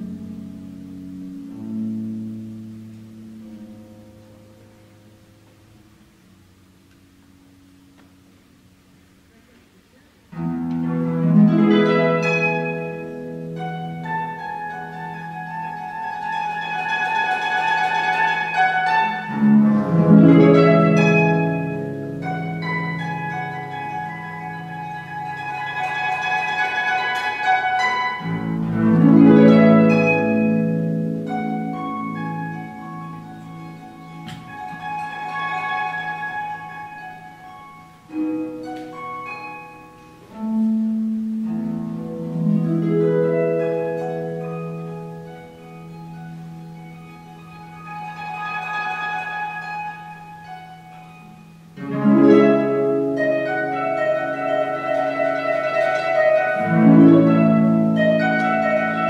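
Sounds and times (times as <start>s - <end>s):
harp playing: 0.0s - 59.0s.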